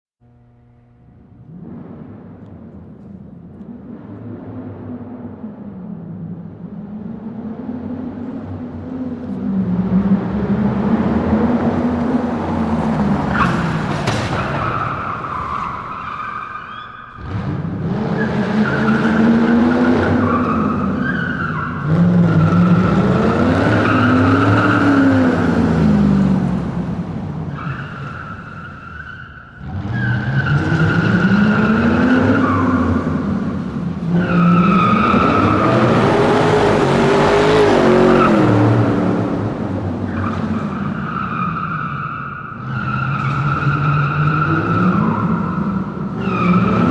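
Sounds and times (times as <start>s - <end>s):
car engine revving: 0.2s - 46.9s
car tyres squealing: 1.0s - 46.9s.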